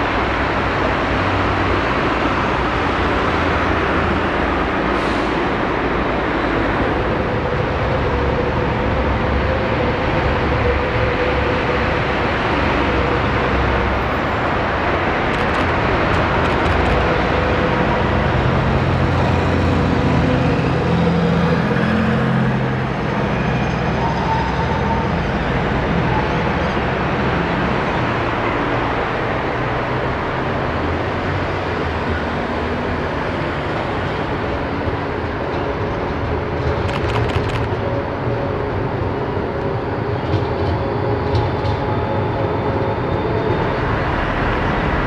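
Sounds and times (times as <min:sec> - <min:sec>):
trams passing: 0:00.0 - 0:45.0.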